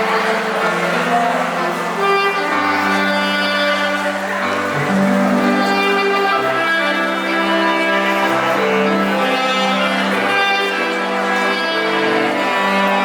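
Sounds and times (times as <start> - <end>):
saxophone duet: 0.0 - 13.0.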